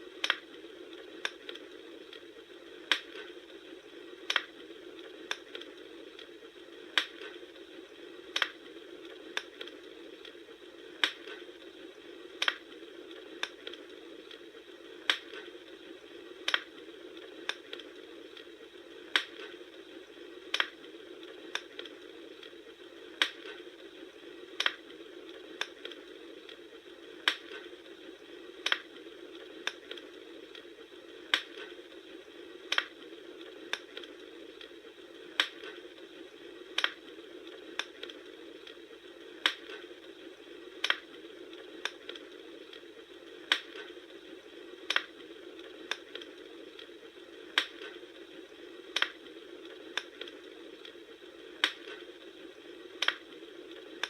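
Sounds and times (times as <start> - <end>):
wood popping in fire: 0.0 - 54.0.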